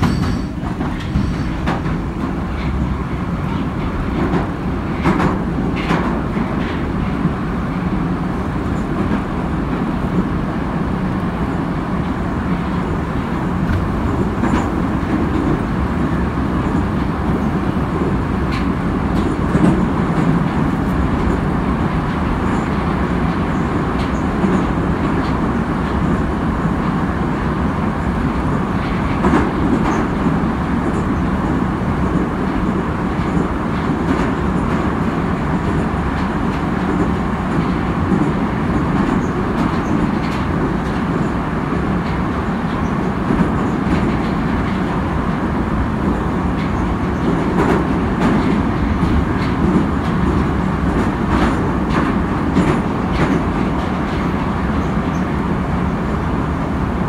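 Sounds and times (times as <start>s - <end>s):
metro train rumble in tunnel: 0.0s - 57.0s.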